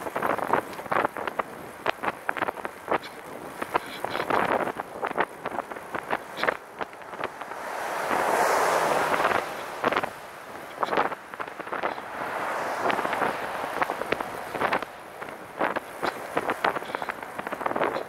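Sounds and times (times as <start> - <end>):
crackles and ticks: 0.0 - 8.2, 9.1 - 18.0
wind rushing over microphone: 0.0 - 18.0.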